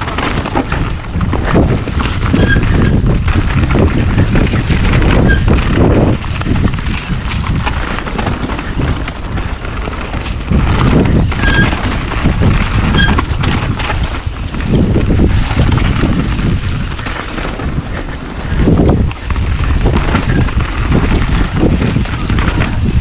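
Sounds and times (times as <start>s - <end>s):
bike rattling over rocks: 0.0s - 23.0s
wind buffeting microphone: 0.0s - 23.0s.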